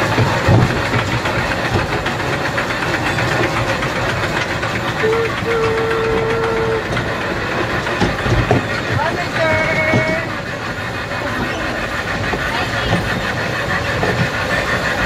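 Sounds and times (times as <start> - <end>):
kiddie train rolling on track: 0.0 - 15.0.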